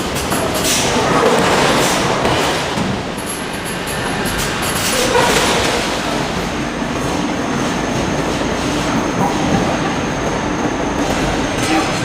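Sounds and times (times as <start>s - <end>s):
forge machinery noise: 0.0s - 12.0s.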